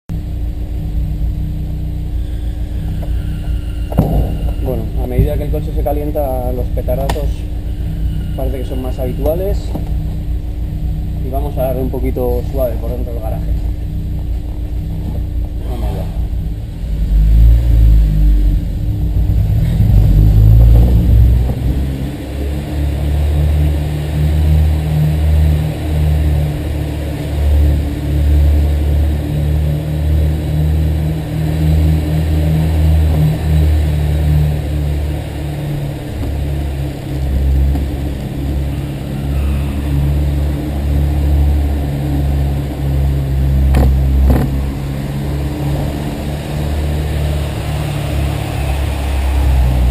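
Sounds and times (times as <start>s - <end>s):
car engine running: 0.1s - 49.9s.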